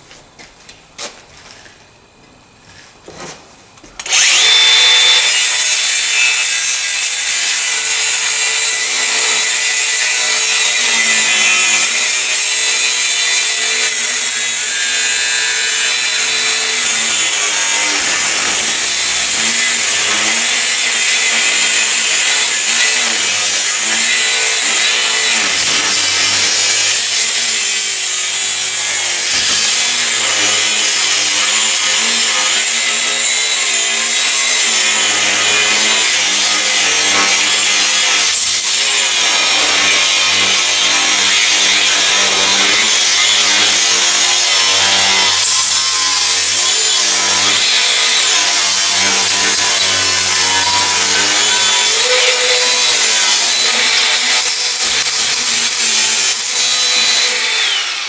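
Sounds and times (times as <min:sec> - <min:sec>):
angle grinder cutting steel: 0:04.0 - 0:58.0.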